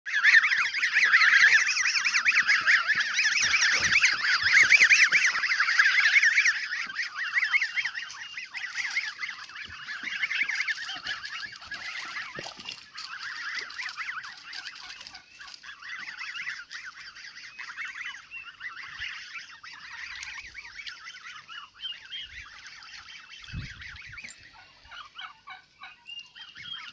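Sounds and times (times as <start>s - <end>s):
young geese peeping: 0.1s - 26.9s.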